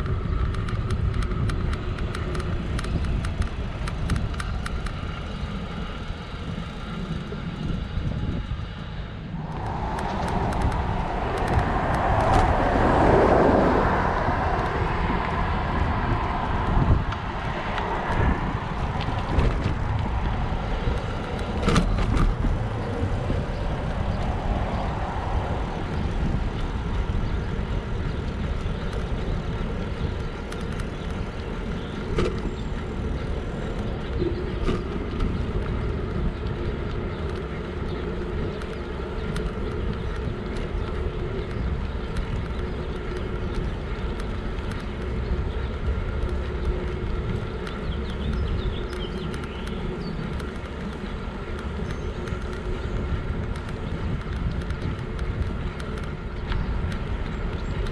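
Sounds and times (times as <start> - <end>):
road noise: 0.0 - 57.9
wind rumble on microphone: 0.0 - 57.9.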